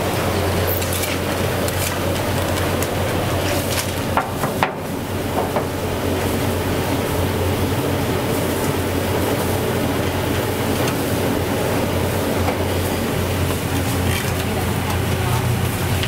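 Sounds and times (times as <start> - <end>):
low mechanical hum and rumble: 0.0 - 16.0.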